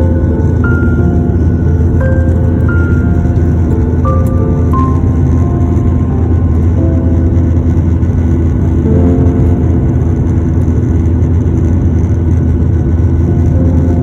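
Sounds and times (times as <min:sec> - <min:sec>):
airliner rumble in flight: 0:00.0 - 0:14.0.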